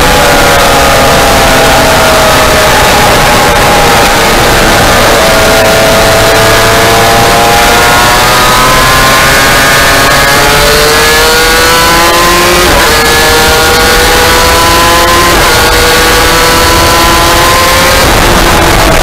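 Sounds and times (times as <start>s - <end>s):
motorcycle engine accelerating: 0.0s - 19.0s
wind noise on microphone: 0.0s - 19.0s.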